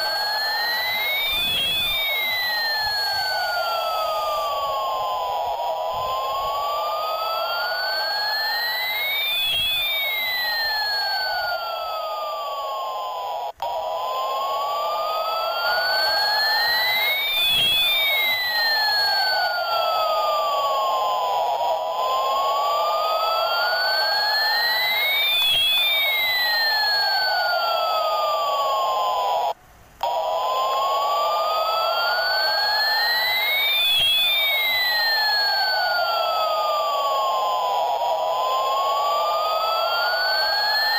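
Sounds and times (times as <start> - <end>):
constant hiss: 0.0 - 40.9
steady hum: 0.0 - 40.9
sweeping electronic siren tone: 0.0 - 40.9.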